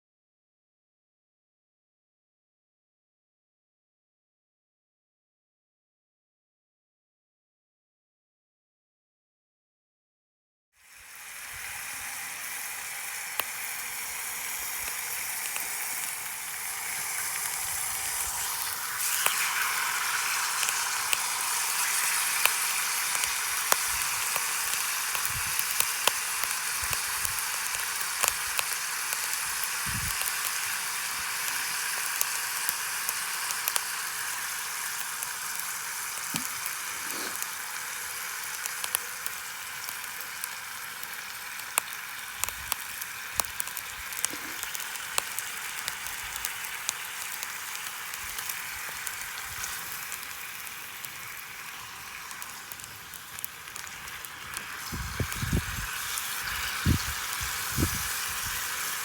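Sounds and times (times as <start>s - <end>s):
food sizzling in a pan: 10.8s - 59.0s
sharp frying pops: 10.8s - 59.0s.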